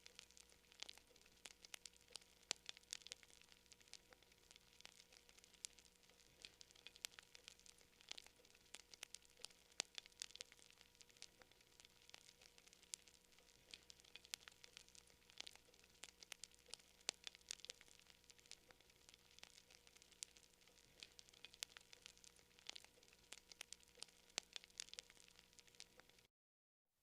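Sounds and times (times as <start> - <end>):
campfire crackling: 0.0 - 26.3
faint steady hum: 0.0 - 26.3.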